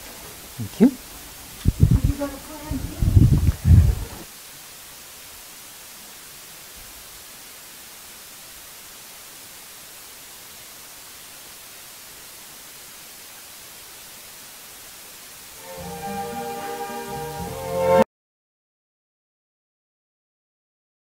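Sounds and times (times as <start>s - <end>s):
steady electronic hiss: 0.0s - 18.0s.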